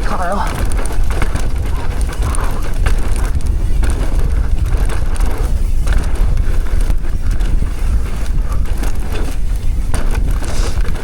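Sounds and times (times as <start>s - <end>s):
bike knocks and rattles: 0.0s - 11.0s
heavy wind on microphone: 0.0s - 11.0s.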